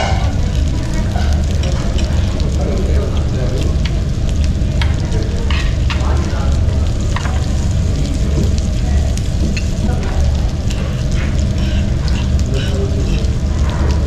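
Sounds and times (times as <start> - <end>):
crackles and spits: 0.0 - 14.0
pork sizzling on a grill: 0.0 - 14.0
steady low rumble: 0.0 - 14.0.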